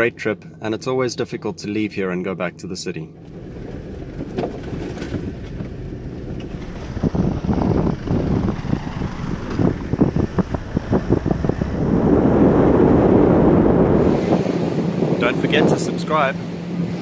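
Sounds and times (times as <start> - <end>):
car driving rumble: 0.0 - 17.0
wind buffeting microphone: 3.2 - 17.0.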